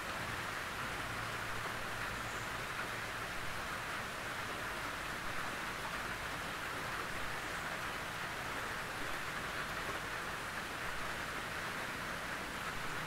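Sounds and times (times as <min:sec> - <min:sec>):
rain on a tin roof: 0:00.0 - 0:13.0.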